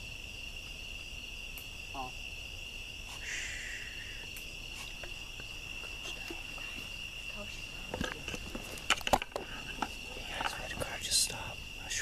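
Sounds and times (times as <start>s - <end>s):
faint hiss: 0.0s - 12.0s
night insects trilling: 0.0s - 12.0s.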